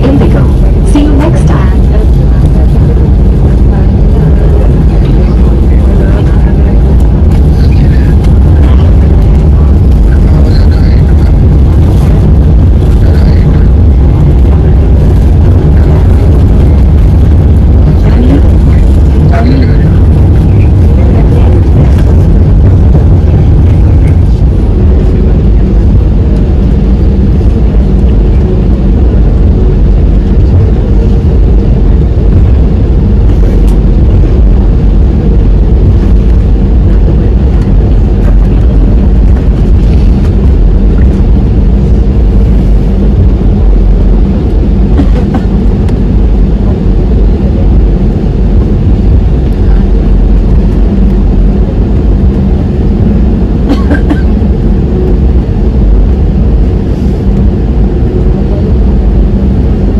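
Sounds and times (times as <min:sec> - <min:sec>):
airplane taxiing rumble: 0:00.0 - 0:59.9
faint steady hum: 0:00.0 - 0:59.9.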